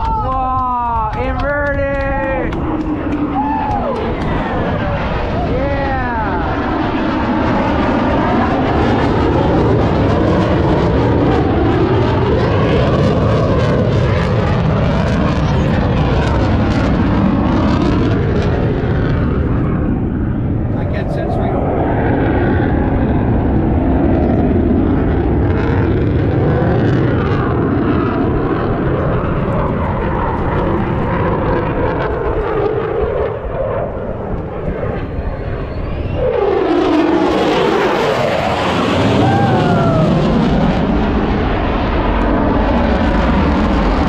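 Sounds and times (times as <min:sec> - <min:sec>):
jet engine passing low: 0:00.0 - 0:44.0.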